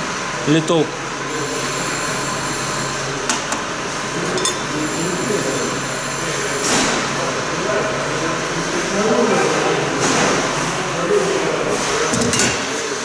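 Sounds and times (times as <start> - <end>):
background machinery hum and hiss: 0.0 - 13.0.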